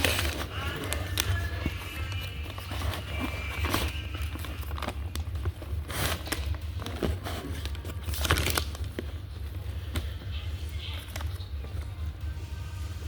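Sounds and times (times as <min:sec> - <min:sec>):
food wrapping crinkling: 0:00.0 - 0:12.0.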